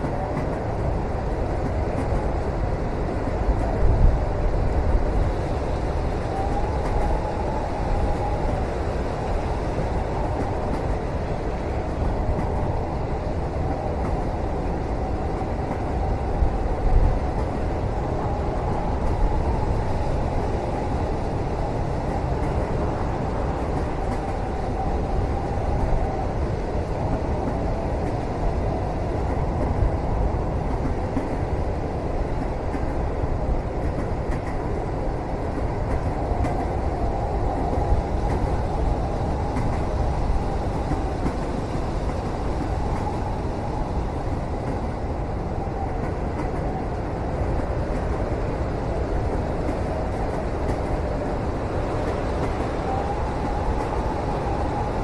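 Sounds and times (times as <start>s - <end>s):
train rumble inside carriage: 0.0s - 55.0s.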